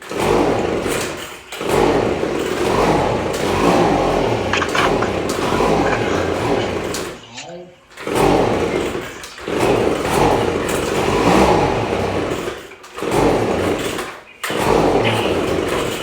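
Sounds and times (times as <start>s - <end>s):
leaf blower engine turning over: 0.1s - 7.2s, 7.9s - 16.0s.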